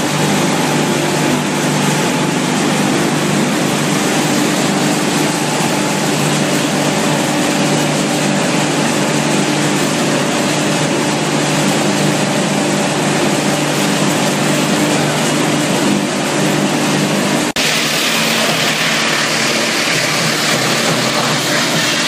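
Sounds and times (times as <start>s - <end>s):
industrial machinery drone: 0.0s - 22.0s.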